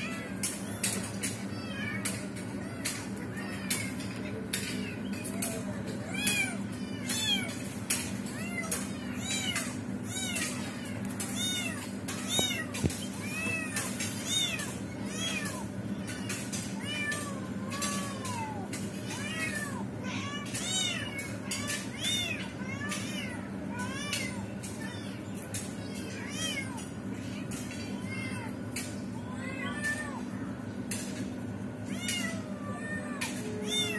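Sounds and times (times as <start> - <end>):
cats meowing: 0.0 - 33.9.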